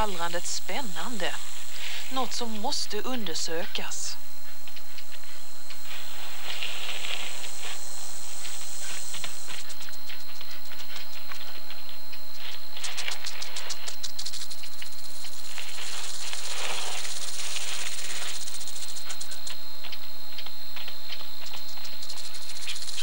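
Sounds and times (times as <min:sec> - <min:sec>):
rattlesnake rattling: 0:00.0 - 0:02.4, 0:04.4 - 0:23.0.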